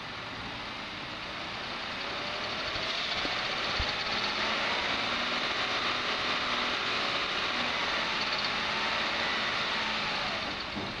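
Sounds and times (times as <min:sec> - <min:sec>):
car engine and drivetrain running: 0:00.0 - 0:11.0.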